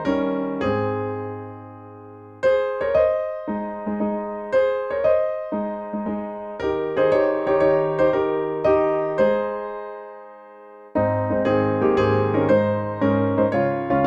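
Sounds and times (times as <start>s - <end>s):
piano playing slow hymn chords: 0.0s - 14.0s.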